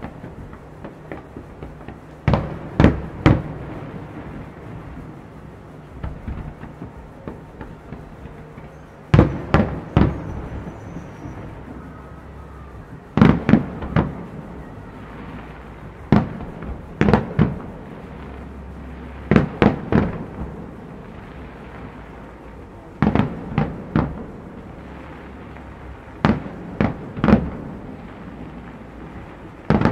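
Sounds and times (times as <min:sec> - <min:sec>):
fireworks bangs: 0:00.0 - 0:29.9
steady background din: 0:00.0 - 0:29.9.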